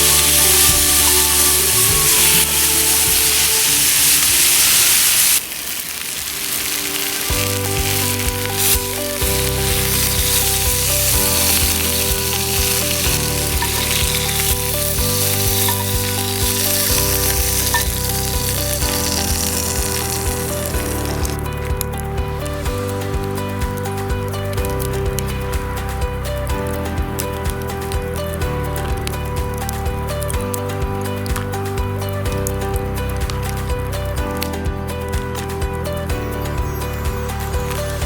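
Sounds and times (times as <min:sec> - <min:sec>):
background music: 0:00.0 - 0:05.4, 0:06.5 - 0:38.0
meat sizzling: 0:00.0 - 0:38.0.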